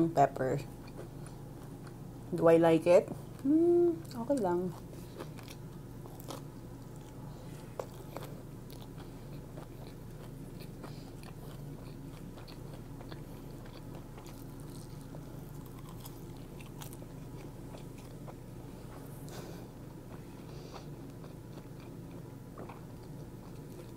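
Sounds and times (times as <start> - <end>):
chewing crispy fried food: 3.2 - 23.9.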